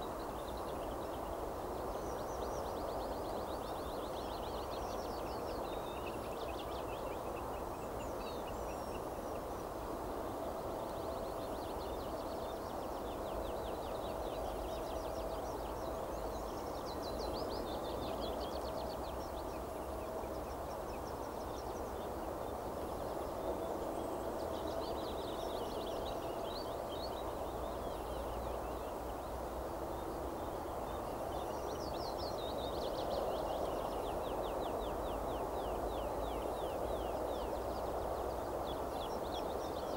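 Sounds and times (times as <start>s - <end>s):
low background noise: 0.0s - 39.9s.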